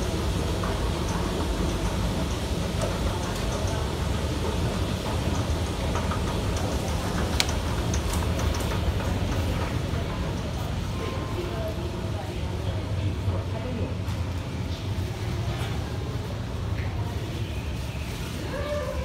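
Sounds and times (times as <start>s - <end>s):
escalator rumbling: 0.0s - 17.1s.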